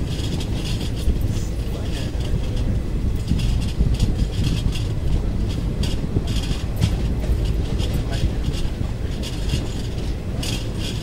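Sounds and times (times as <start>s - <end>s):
scratchy rattle: 0.0s - 11.0s
wheels rumbling on rails: 0.0s - 11.0s.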